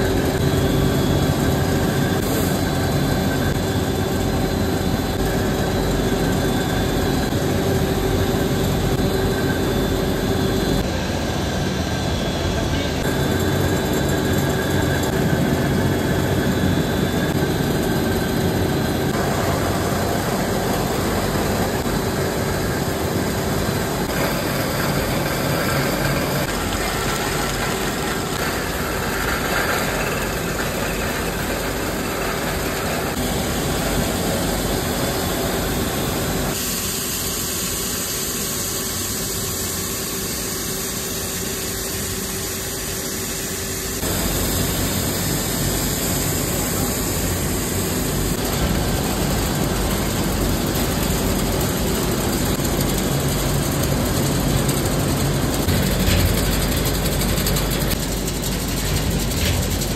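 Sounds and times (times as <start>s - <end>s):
factory machinery hum and hiss: 0.0s - 59.9s.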